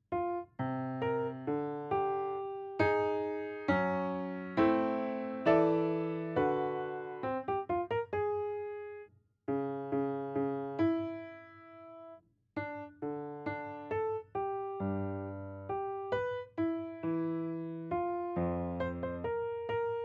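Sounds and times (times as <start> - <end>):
solo atonal piano: 0.1 - 20.0.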